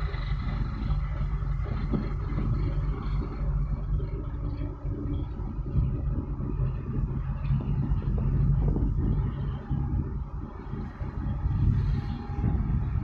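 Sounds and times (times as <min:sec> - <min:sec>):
boat diesel engines droning: 0:00.0 - 0:13.0.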